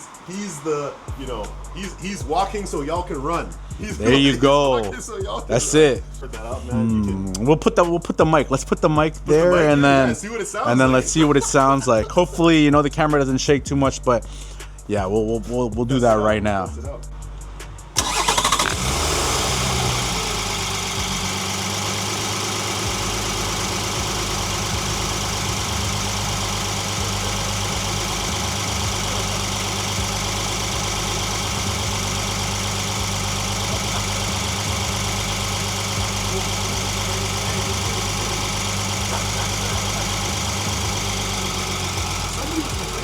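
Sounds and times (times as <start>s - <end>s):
car engine starting and idling: 0.0s - 16.2s, 16.9s - 43.0s.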